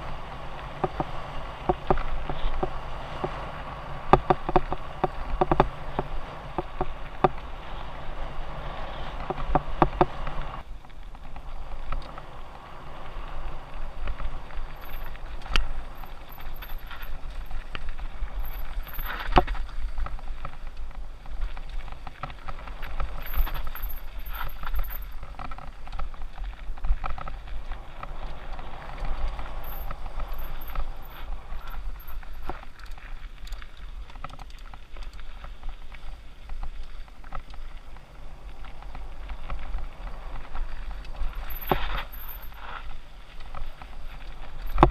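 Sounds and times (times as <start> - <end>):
bike rattling and clicking: 0.0 - 44.9
tyres running over dirt and rocks: 0.0 - 44.9
wind rumbling on microphone: 0.0 - 44.9.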